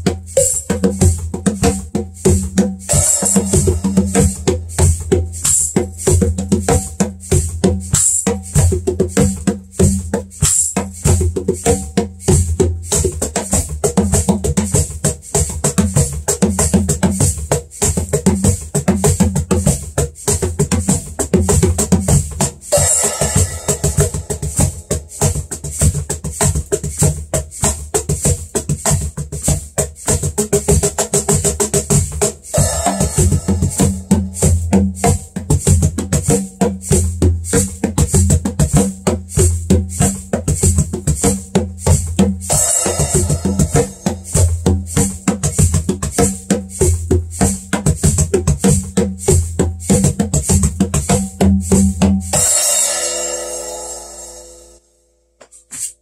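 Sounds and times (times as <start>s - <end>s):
cajon drumming by hand: 0.0s - 54.6s.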